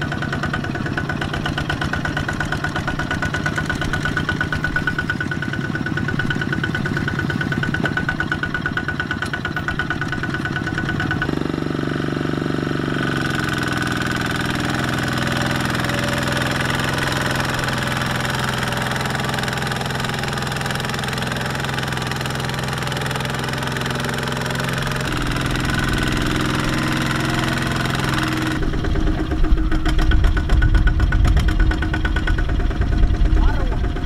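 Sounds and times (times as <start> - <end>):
diesel tractor engine running: 0.0 - 34.0.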